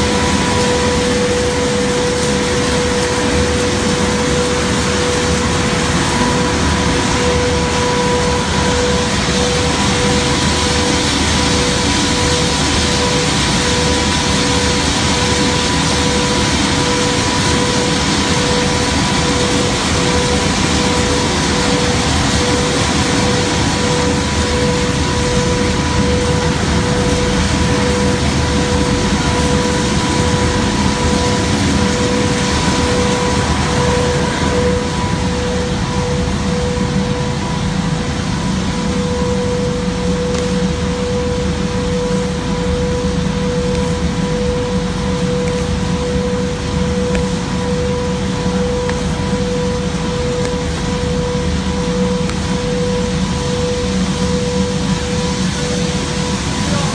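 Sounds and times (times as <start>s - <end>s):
plastic granulating machine drone: 0.0s - 56.9s.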